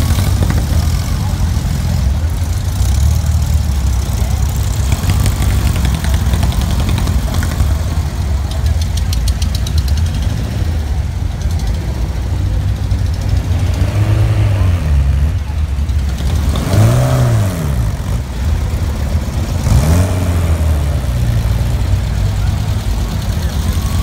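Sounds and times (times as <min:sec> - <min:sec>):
car engines idling: 0:00.0 - 0:24.0.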